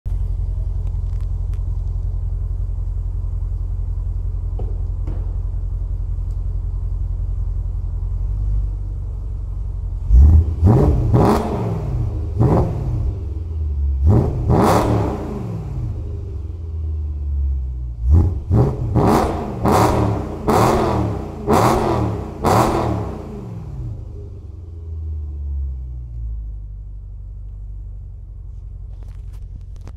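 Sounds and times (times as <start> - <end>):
car engine idling and revving: 0.1 - 29.9.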